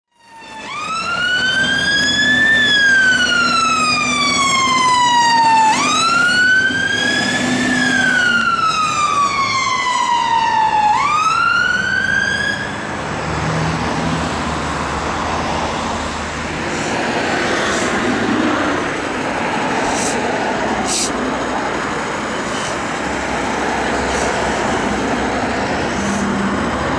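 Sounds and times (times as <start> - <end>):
fire engine siren wailing: 0.1 - 26.9
vehicle engine and road noise: 0.2 - 26.9.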